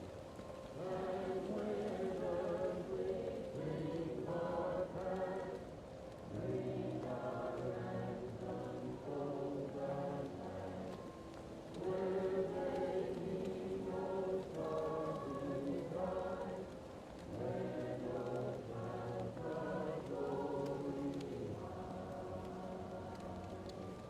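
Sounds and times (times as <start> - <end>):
muffled choir singing: 0.0 - 24.0
wood fire crackling: 0.0 - 24.0.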